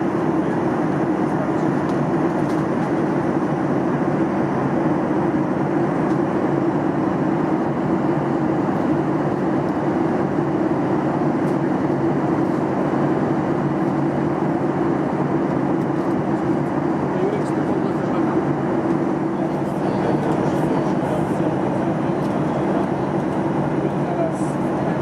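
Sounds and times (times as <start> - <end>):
airliner cabin engine roar: 0.0 - 25.0.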